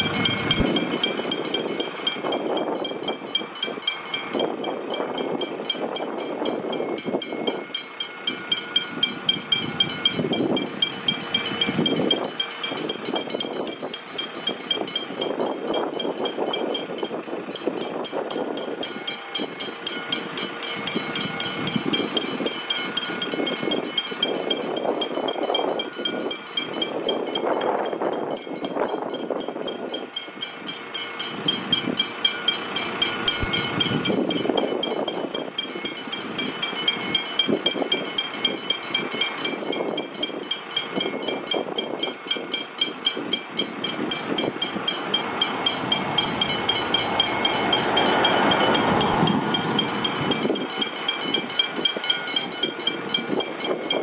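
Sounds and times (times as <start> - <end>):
level crossing bell ringing: 0.0 - 54.0
road traffic: 0.0 - 54.0
train rumbling: 0.0 - 54.0.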